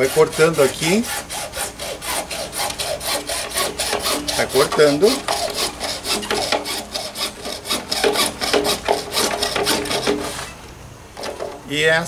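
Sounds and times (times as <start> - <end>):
hacksaw cutting plastic pipe: 0.0 - 10.6, 11.2 - 11.6.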